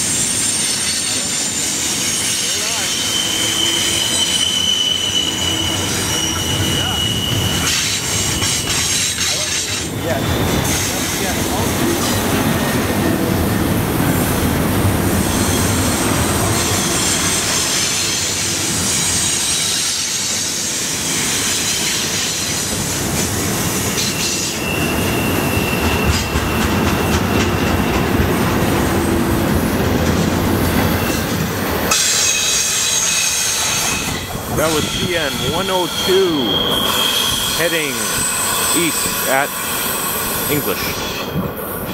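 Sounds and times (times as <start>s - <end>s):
steel wheels squealing: 0.0s - 12.9s, 15.1s - 41.9s
freight train cars rumbling: 0.0s - 41.9s.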